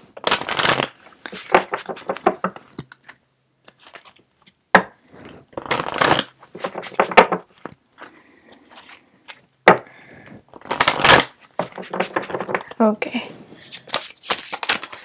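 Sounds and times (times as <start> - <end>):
cards shuffling and riffling: 0.2 - 9.5, 10.5 - 12.8, 13.6 - 15.0.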